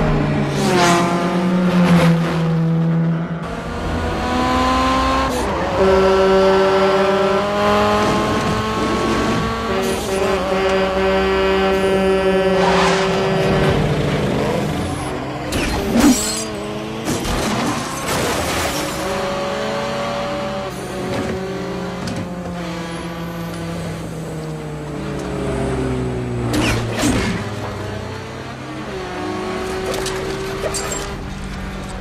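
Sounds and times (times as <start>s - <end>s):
car engines revving past: 0.0s - 32.0s.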